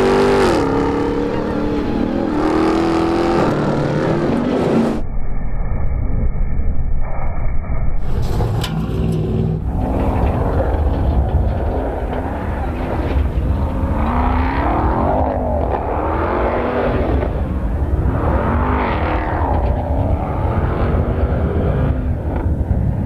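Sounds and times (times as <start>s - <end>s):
truck engine revving: 0.0s - 5.0s, 8.1s - 23.0s.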